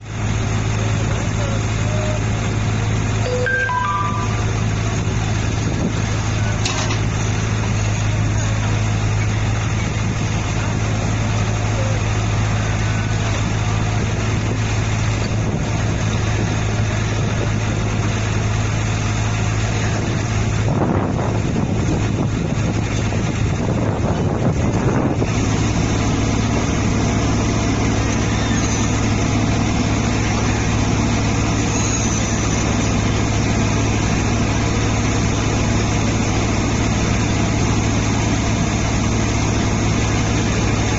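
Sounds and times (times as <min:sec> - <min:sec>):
pile driver engine humming: 0:00.0 - 0:40.9.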